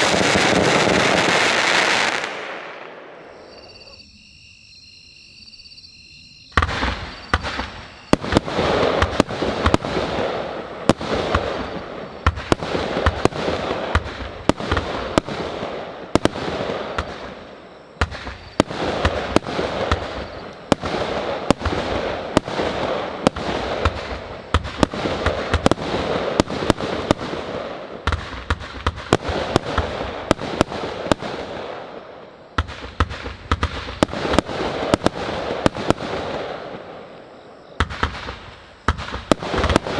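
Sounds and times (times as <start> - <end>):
firework hiss and crackle: 0.0 - 4.0, 6.5 - 39.9
firework launch reports and bursts: 0.0 - 4.0, 6.5 - 39.9.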